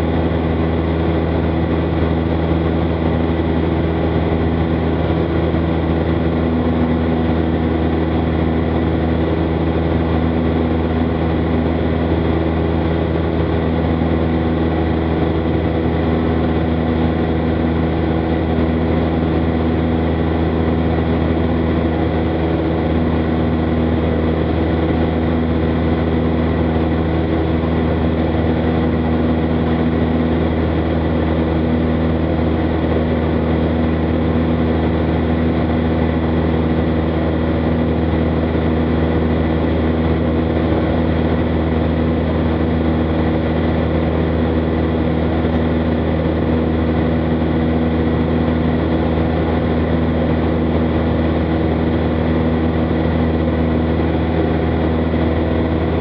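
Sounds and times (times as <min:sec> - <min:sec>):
light aircraft engine humming: 0:00.0 - 0:56.0.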